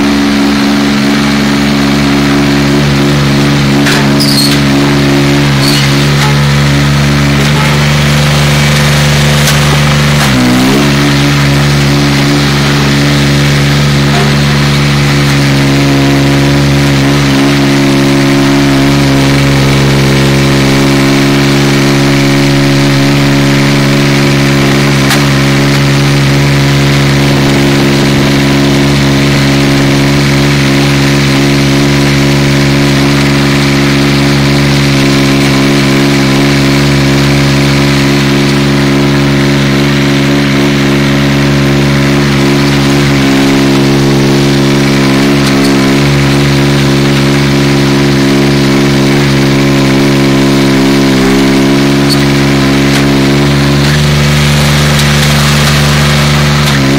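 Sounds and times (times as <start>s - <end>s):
dumper engine running: 0.0s - 56.9s.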